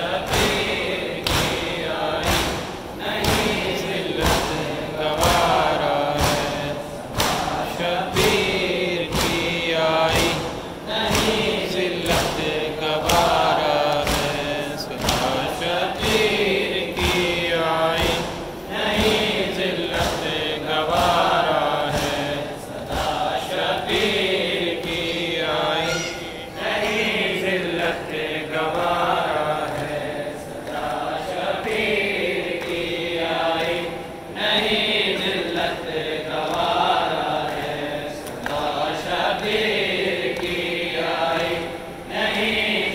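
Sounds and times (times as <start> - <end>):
crowd chanting a lament: 0.0 - 42.9
sharp rhythmic beats: 0.0 - 42.9.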